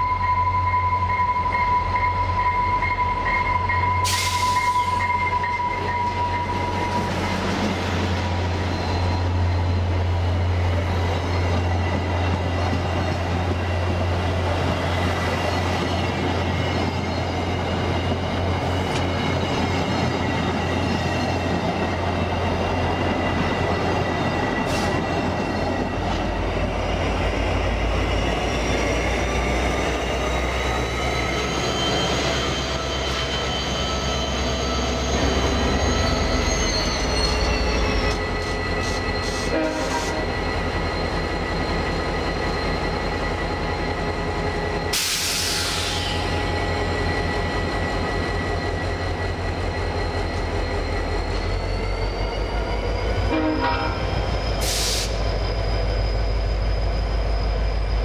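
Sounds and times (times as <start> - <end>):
diesel locomotive drone: 0.0 - 58.0.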